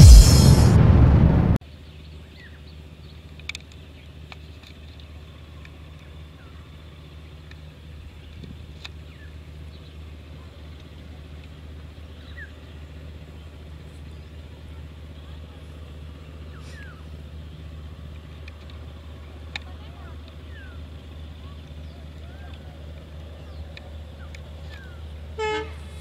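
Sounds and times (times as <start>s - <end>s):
distant diesel locomotive drone: 0.0s - 26.0s.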